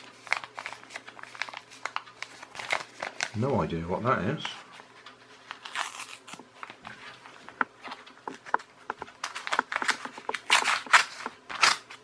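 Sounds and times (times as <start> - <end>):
packaging crinkling and rustling: 0.0 - 3.5, 4.3 - 12.0.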